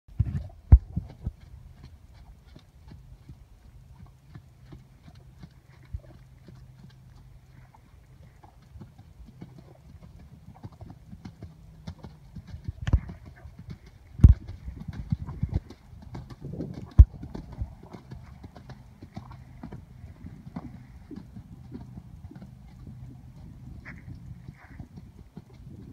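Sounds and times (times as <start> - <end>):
horse hoofbeats on sand: 0.1 - 25.9.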